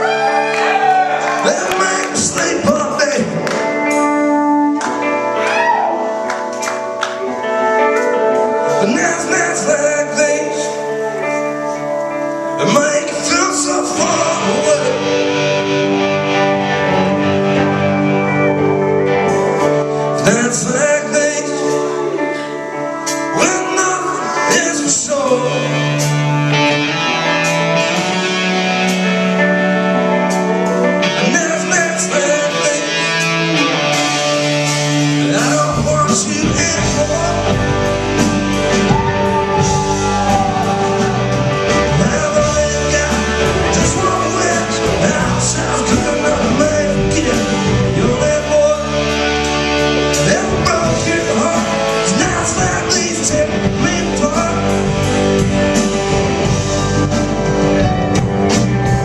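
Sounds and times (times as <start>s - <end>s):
bass guitar: 0.0s - 59.0s
live rock band playing: 0.0s - 59.0s.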